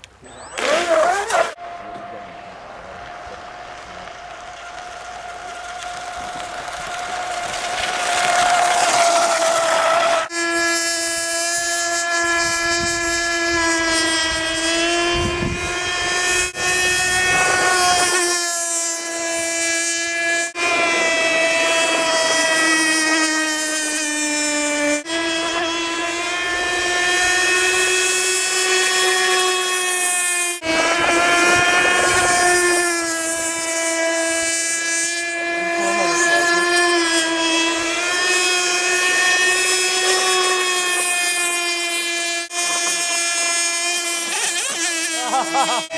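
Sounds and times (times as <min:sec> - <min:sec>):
high-pitched electric motor whine: 0:00.2 - 0:45.9.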